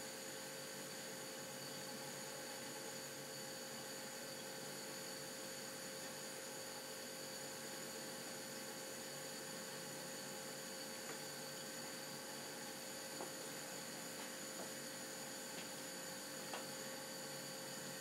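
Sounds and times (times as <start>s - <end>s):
faint electrical hum: 0.0s - 18.0s
steady hiss: 1.6s - 18.0s.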